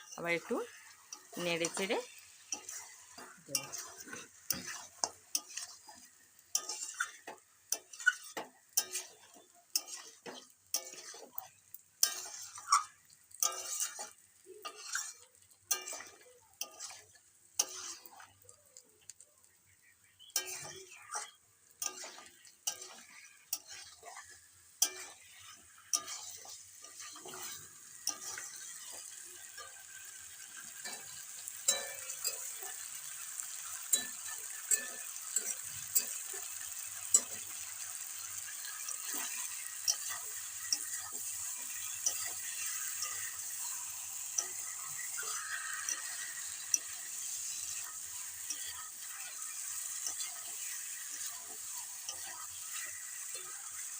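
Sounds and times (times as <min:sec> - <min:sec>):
spatula scraping a pan: 0:00.0 - 0:18.5, 0:20.2 - 0:53.9
meat sizzling in oil: 0:00.0 - 0:53.9.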